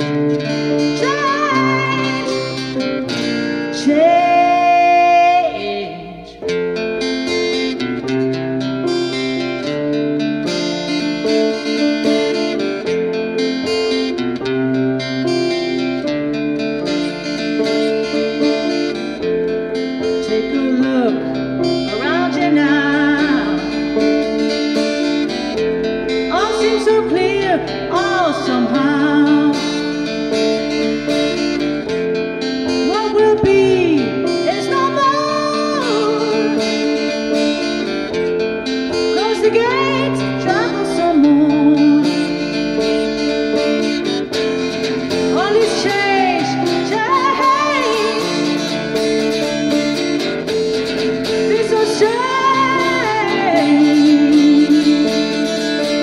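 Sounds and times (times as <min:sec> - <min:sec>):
acoustic guitar chords: 0:00.0 - 0:56.0
keyboard chords: 0:00.0 - 0:56.0.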